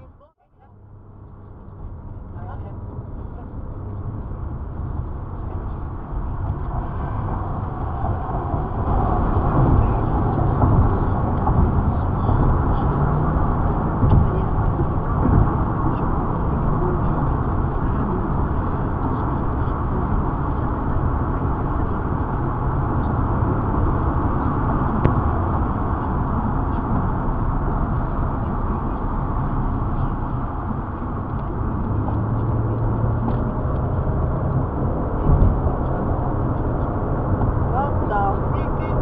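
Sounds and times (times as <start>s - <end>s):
car engine running: 0.0s - 39.0s
road noise inside moving car: 0.0s - 39.0s.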